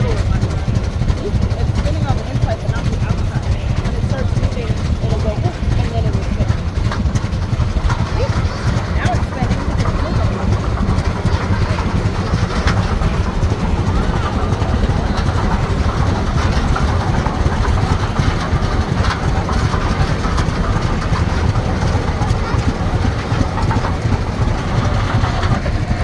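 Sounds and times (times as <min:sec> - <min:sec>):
heavy engine pulsing rumble: 0:00.0 - 0:26.0.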